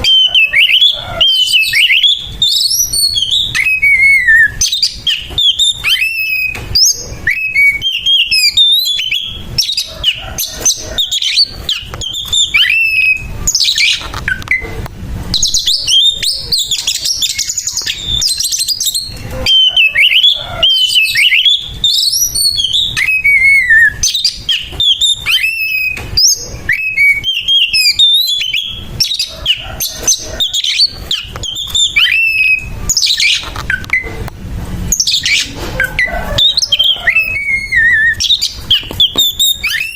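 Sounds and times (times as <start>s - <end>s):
songbird singing harsh song: 0.0s - 14.7s, 15.3s - 34.1s, 34.9s - 39.9s.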